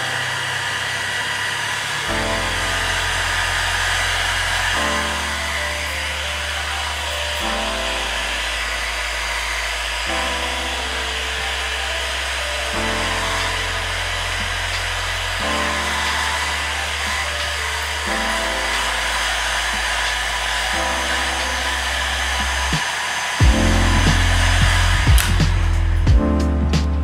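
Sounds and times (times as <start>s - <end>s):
hot-air blower hissing: 0.0s - 26.1s
background music: 2.1s - 27.0s.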